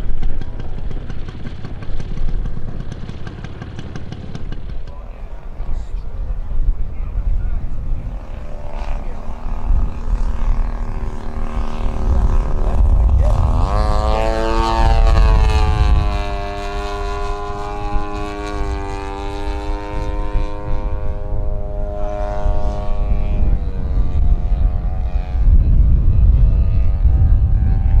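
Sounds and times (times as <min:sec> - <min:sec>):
model airplane engine and propeller: 0:00.0 - 0:28.0
wind rumbling on microphone: 0:04.6 - 0:28.0.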